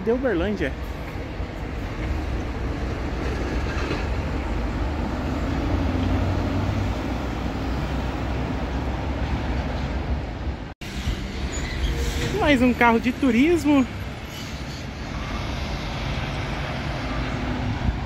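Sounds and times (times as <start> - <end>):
coach engines rumbling: 0.0 - 18.0.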